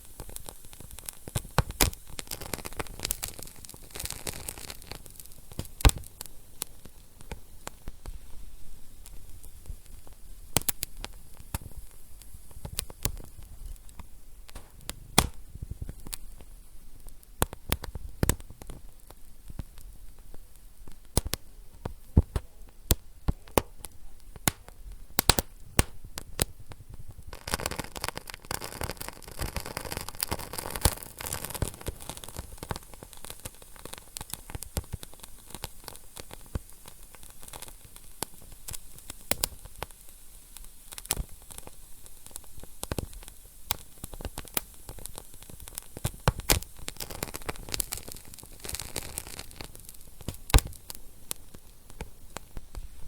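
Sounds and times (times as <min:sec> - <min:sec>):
low hiss of fire: 0:00.0 - 0:53.0
wood fire crackling and popping: 0:00.0 - 0:53.0.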